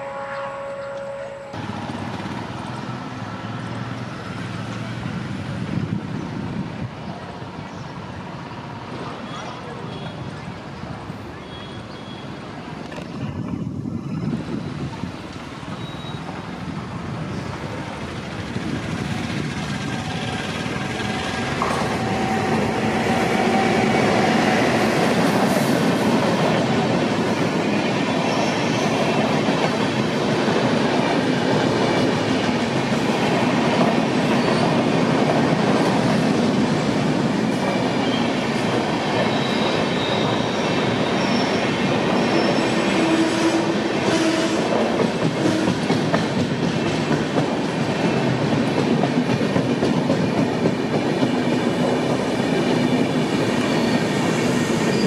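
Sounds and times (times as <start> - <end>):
electric locomotive passing: 0.0 - 55.0
rumble of wheels on rail: 0.0 - 55.0.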